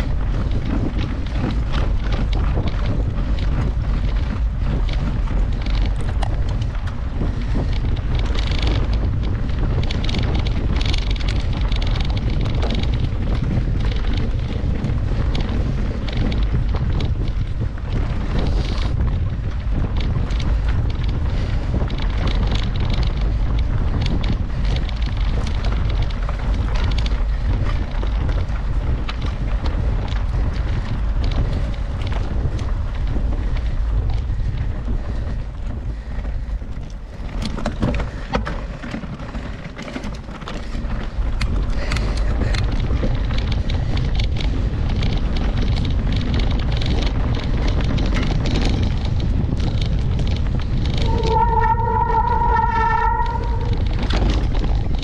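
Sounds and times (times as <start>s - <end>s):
bike rattling and knocking: 0.0s - 55.0s
wind buffeting microphone: 0.0s - 55.0s.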